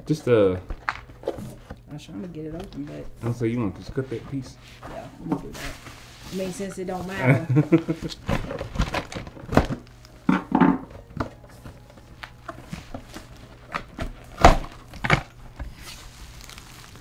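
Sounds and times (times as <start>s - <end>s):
cardboard box handling noise: 0.5s - 17.0s.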